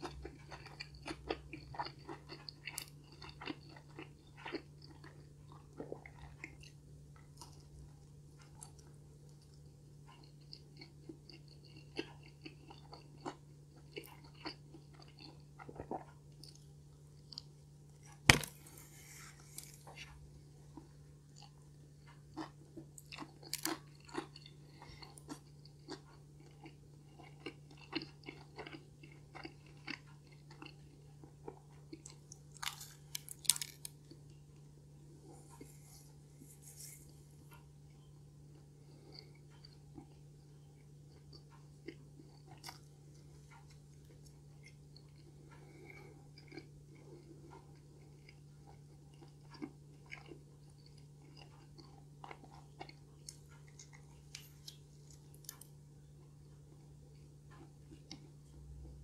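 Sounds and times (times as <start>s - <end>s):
pizza crunching while chewing: 0.0s - 34.3s, 38.5s - 59.0s
faint low hum: 0.0s - 59.0s.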